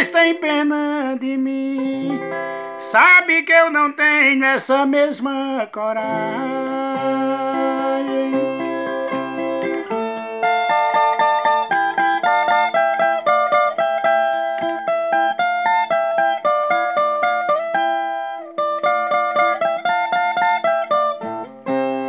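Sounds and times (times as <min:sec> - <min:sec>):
plucked string instrument melody: 0:00.0 - 0:22.0.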